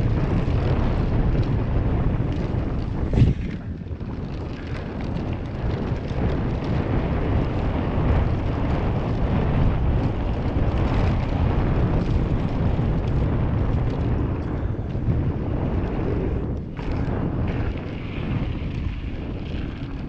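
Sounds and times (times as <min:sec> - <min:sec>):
bike rattling: 0:00.0 - 0:20.0
wind buffeting microphone: 0:00.0 - 0:20.0.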